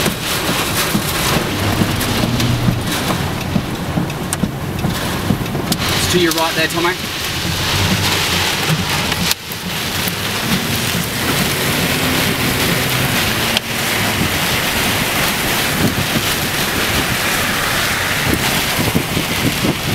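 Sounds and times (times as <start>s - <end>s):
car engine running low: 0.0s - 19.9s
heavy rain beating on a car: 0.0s - 19.9s
wind: 0.0s - 19.9s.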